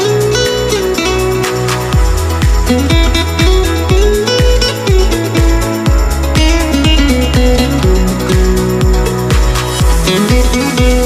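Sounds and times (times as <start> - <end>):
plucked-string melody: 0.0 - 11.0
electronic bass drum: 0.3 - 11.0.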